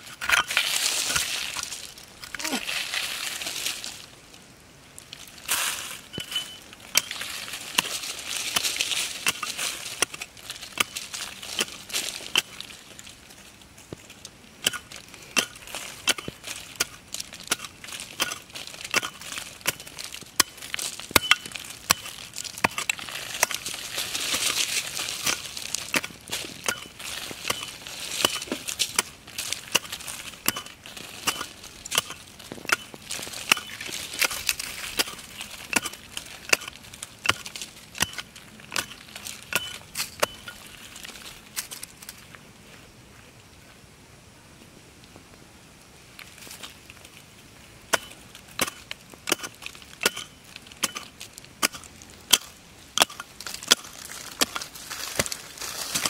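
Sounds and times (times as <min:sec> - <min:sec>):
dirt crunching and scraping: 0:00.0 - 0:43.8, 0:46.1 - 0:56.0
hand pick chopping soil: 0:00.1 - 0:03.9, 0:05.4 - 0:12.7, 0:14.6 - 0:40.8, 0:47.9 - 0:56.0.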